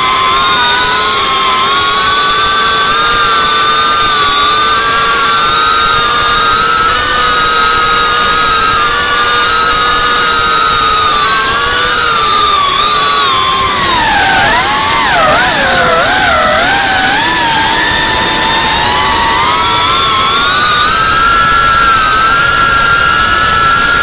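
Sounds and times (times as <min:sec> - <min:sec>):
drone propellers whining: 0:00.0 - 0:24.0.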